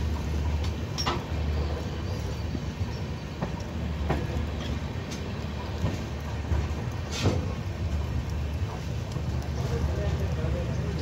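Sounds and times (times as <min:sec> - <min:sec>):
train clacks and knocks: 0:00.0 - 0:11.0
train wheels rumbling on rails: 0:00.0 - 0:11.0.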